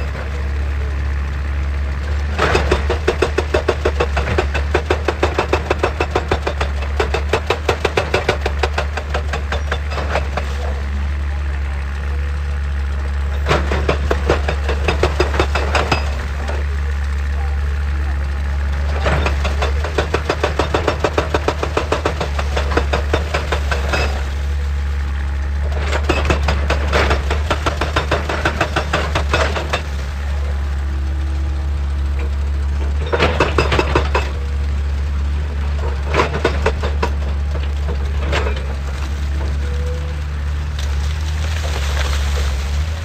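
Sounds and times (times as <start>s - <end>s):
diesel engine deep drone: 0.0s - 43.0s.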